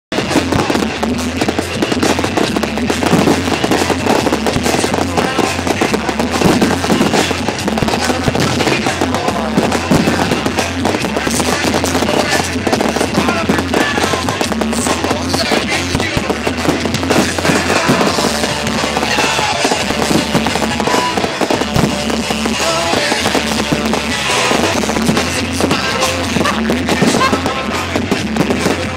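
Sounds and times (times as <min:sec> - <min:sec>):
fireworks bangs and crackles: 0:00.1 - 0:28.9
loud music: 0:00.1 - 0:28.9.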